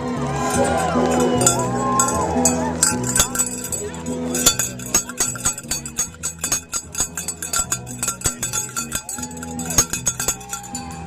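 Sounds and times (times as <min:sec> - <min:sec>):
cowbells ringing rapidly: 0:00.3 - 0:11.0.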